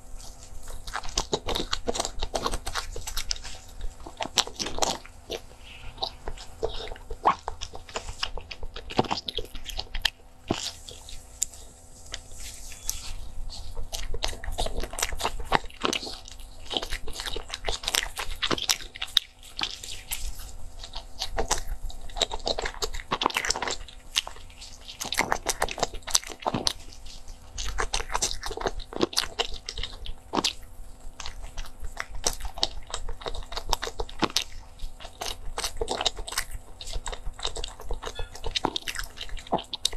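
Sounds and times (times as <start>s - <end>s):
bread tearing with crackles: 0.0s - 39.9s
crunching and chewing bread: 0.0s - 39.9s.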